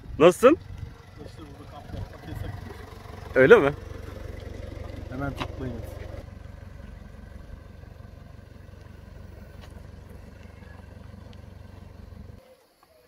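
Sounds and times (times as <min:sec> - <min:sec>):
vehicle engine idling: 0:00.0 - 0:12.8.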